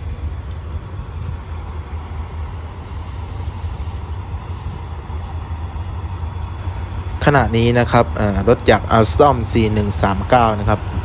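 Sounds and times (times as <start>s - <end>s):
diesel locomotive engine throbbing: 0.0s - 11.0s.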